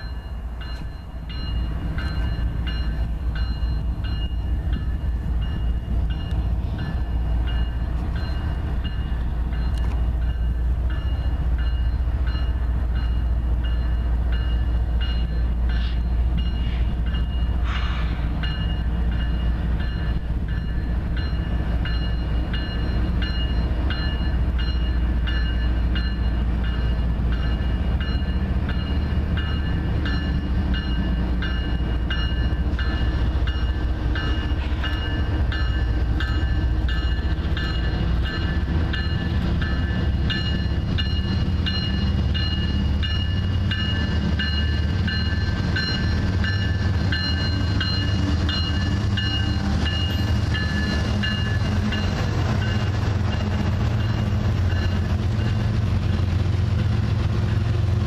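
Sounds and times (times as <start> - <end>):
diesel locomotive engine rumble: 0.0 - 58.0
locomotive bell ringing: 0.0 - 58.0.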